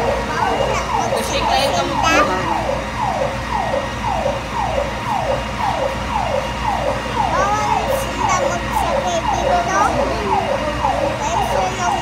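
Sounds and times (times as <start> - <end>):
fire truck siren: 0.0 - 12.0.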